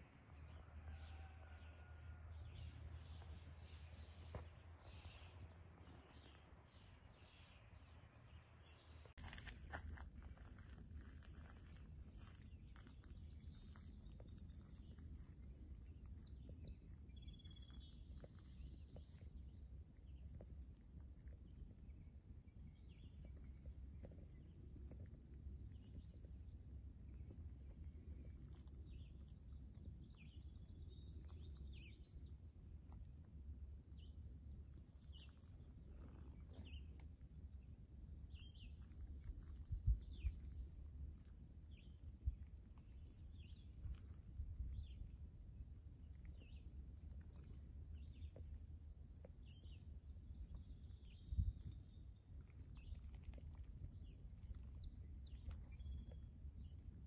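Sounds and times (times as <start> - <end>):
steady low rumble: 0.0 - 57.0
small birds chirping and trilling: 0.4 - 9.4, 10.3 - 20.4, 21.2 - 32.4, 33.9 - 40.7, 41.6 - 57.0.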